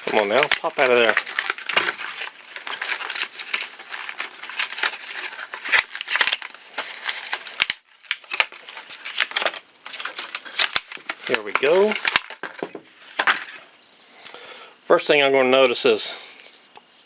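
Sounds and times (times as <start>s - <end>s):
stiff plastic packaging crackling: 0.0s - 13.7s.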